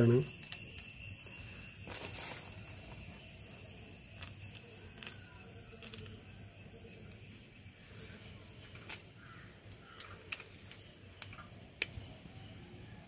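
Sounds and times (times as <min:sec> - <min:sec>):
distant bird chirps: 0:00.0 - 0:13.0.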